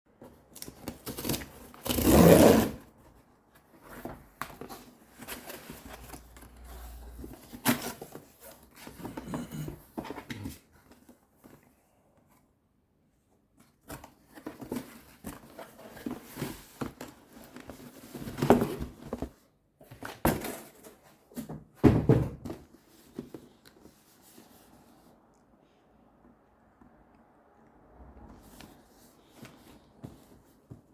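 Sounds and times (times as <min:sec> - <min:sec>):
box and paper rustling: 0:00.2 - 0:12.5, 0:13.6 - 0:25.3, 0:28.2 - 0:30.9.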